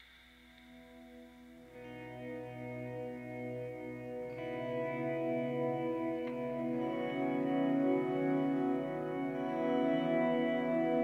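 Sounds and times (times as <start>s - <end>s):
soft sustained music chords: 0.0s - 11.0s.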